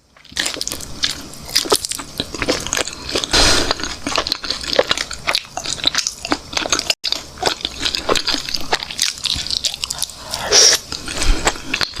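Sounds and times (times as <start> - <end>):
biting and chewing chicken: 0.1 - 12.0.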